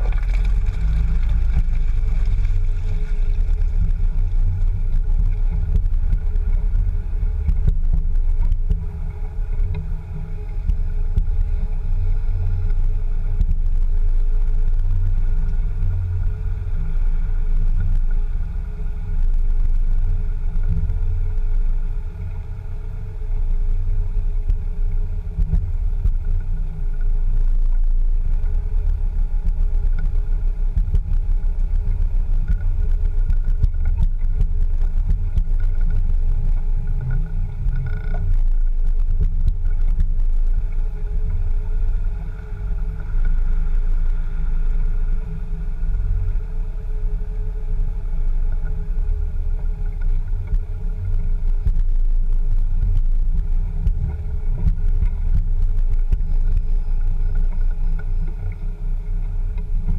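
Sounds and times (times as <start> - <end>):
engine and tyres rumbling: 0.0 - 59.9.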